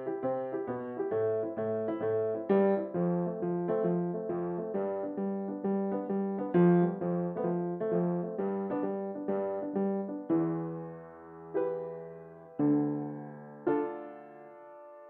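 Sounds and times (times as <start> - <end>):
bouncy piano accompaniment: 0.0 - 15.0.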